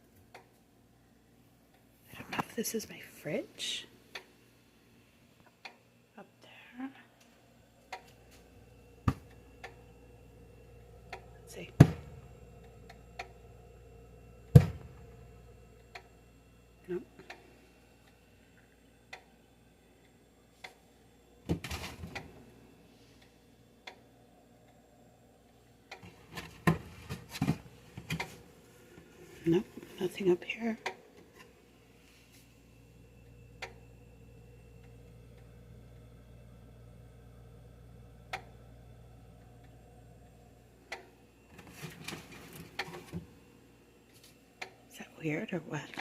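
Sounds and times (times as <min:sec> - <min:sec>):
refrigerator humming: 0:00.0 - 0:46.0.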